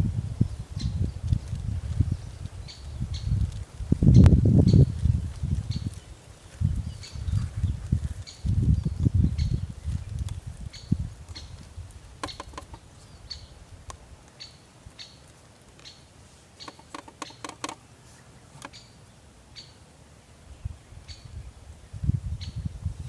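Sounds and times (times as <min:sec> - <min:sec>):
small bird chirping: 0:00.4 - 0:11.6, 0:12.2 - 0:13.6, 0:14.4 - 0:19.8, 0:20.9 - 0:23.0.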